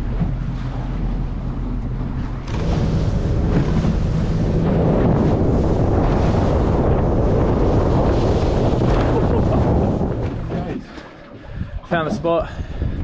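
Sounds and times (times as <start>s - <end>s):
outboard motor drone: 0.0s - 13.0s
water rushing around hull: 0.0s - 13.0s
wind buffeting microphone: 0.0s - 13.0s.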